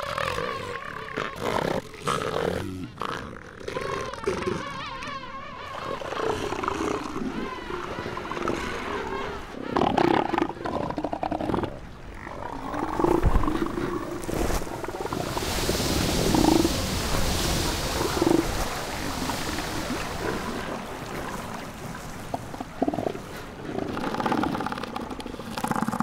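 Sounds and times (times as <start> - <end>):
elephant seals calling: 0.0 - 26.0
water splashing: 4.8 - 26.0.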